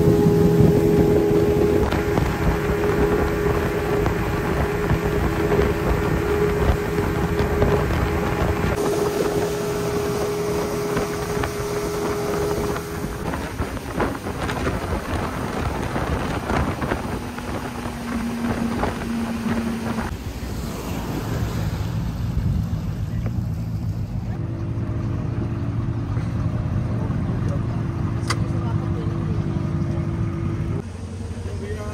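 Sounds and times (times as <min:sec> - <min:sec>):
wind and water rushing: 0:00.0 - 0:24.2, 0:30.5 - 0:31.9
outboard motor running: 0:00.0 - 0:31.9.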